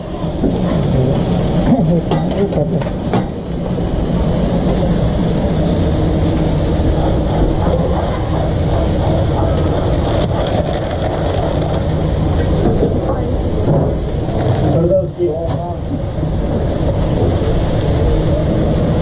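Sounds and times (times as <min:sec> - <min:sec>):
machinery running with low hum: 0:00.0 - 0:19.0.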